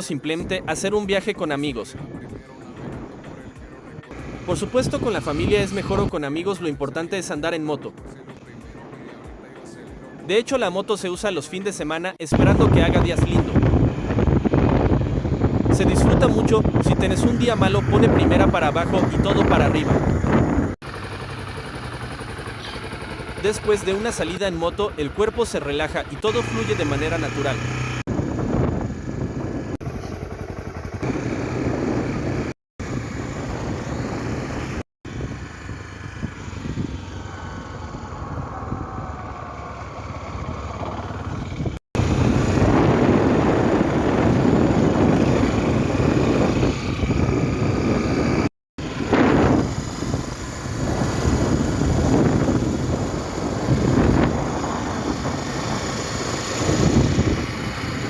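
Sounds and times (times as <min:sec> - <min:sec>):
motorcycle engine running: 0:02.1 - 0:06.6, 0:12.4 - 0:58.0.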